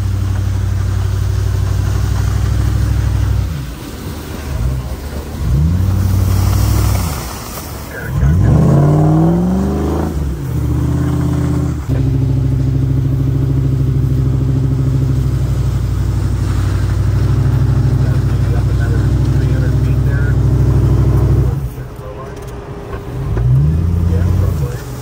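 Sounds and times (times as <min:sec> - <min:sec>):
off-road engine revving: 0:00.0 - 0:25.0.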